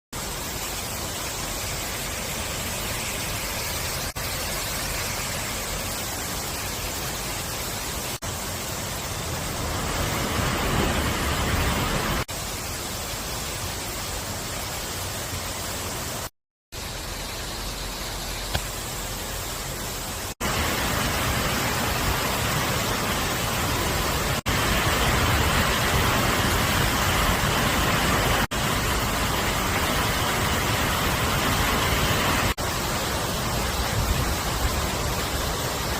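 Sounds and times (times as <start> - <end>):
rain hissing: 0.2 - 35.9.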